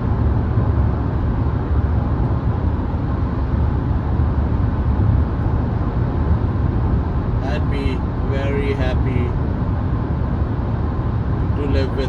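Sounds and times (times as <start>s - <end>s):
road and tyre noise in car cabin: 0.0s - 12.0s.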